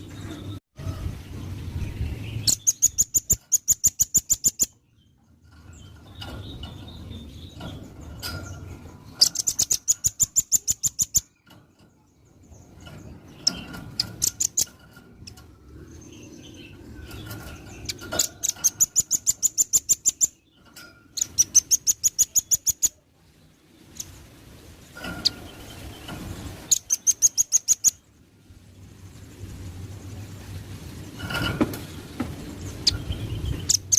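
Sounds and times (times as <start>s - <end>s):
bird singing rapid high trills: 0.0s - 33.9s.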